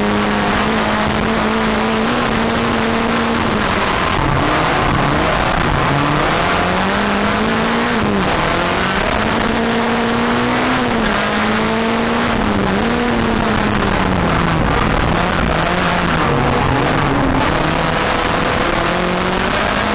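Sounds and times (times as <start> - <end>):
racing car engine revving: 0.0 - 19.9.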